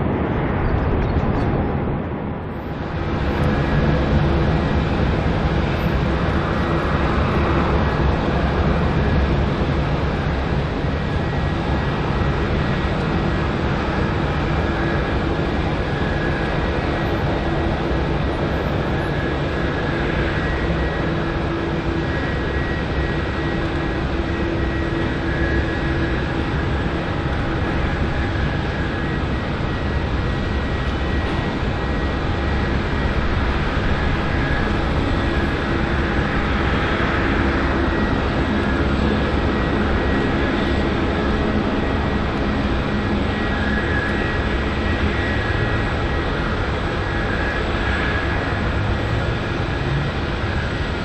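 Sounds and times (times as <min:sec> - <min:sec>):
jet engines roaring and whining: 0:00.0 - 0:51.0.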